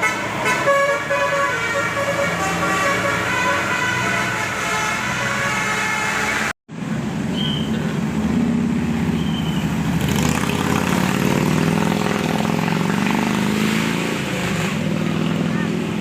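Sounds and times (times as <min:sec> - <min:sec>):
bus diesel engine rumbling: 0:00.0 - 0:12.8, 0:14.1 - 0:16.0.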